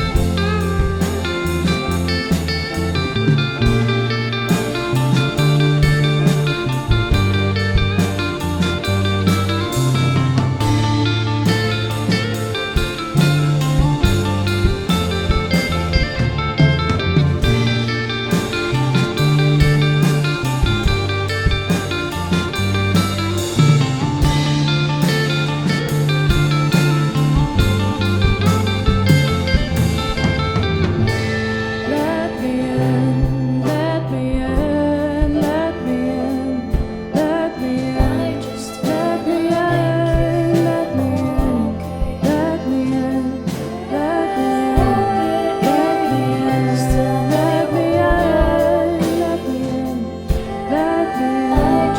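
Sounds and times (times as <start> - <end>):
bass: 0.0 - 51.9
drums steady beat: 0.0 - 51.9
guitars: 0.0 - 51.9
piano: 0.0 - 51.9
wordless singing: 0.0 - 51.9.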